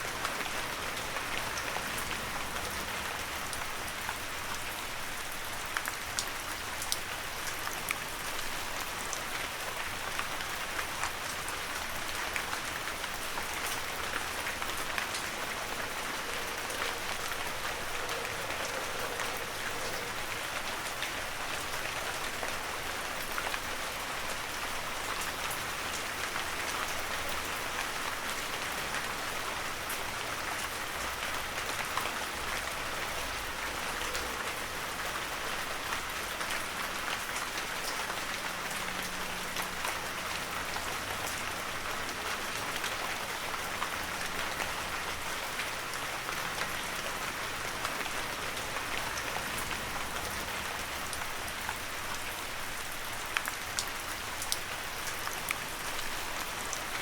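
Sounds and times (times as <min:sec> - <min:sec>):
heavy rain falling: 0:00.0 - 0:57.0
raindrops ticking: 0:00.0 - 0:57.0.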